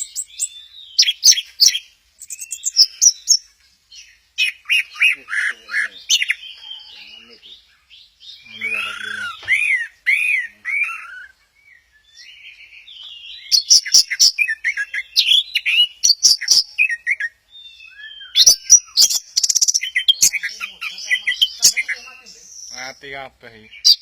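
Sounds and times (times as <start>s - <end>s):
bird singing: 0.0s - 24.0s.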